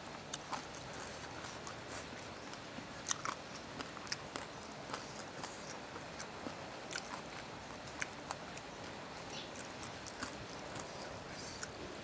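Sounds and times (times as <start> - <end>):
wet eating clicks and smacks: 0.0 - 12.0.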